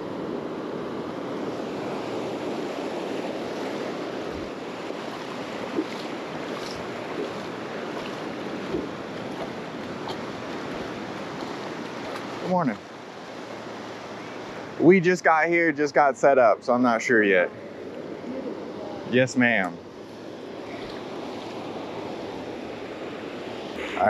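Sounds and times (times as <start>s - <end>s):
surf washing over sand: 0.0s - 24.0s.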